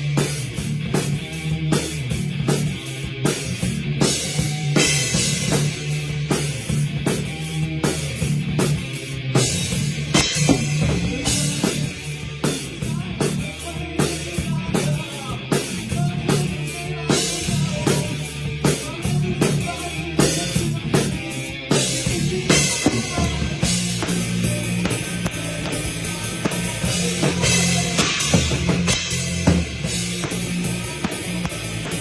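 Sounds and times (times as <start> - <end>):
drum kit beat: 0.0 - 32.0
rock band playing: 0.0 - 32.0.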